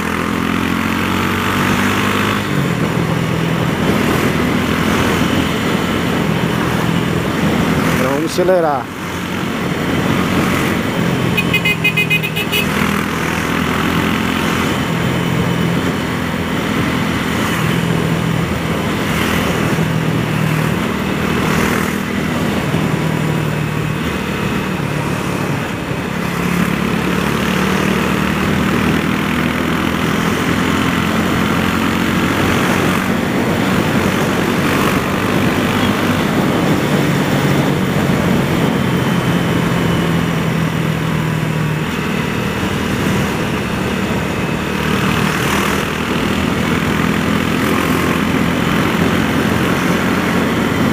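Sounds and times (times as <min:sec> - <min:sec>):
motorcycle engine revving: 0:00.0 - 0:50.9
wind and road noise: 0:00.0 - 0:50.9.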